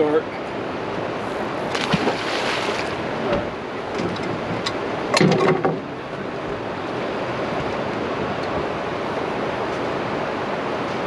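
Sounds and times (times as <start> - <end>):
rushing water below a dam: 0.0 - 11.0.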